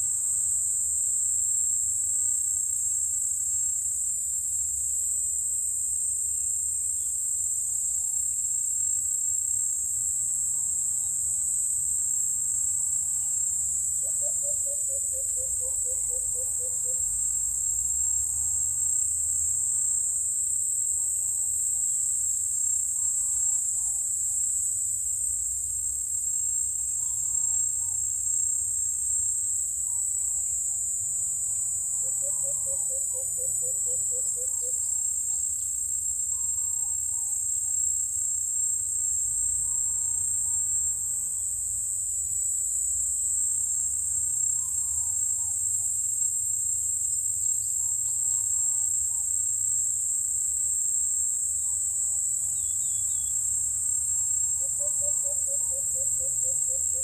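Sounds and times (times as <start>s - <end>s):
insects chorus: 0.0s - 57.0s.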